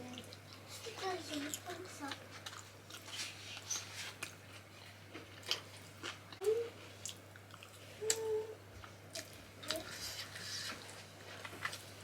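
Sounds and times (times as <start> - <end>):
chewing with wet smacks: 0.0 - 10.0.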